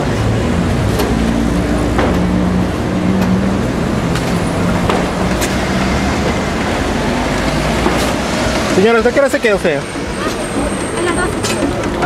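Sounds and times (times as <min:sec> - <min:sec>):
street traffic noise: 0:00.0 - 0:12.0
vehicle engine running nearby: 0:00.0 - 0:12.0.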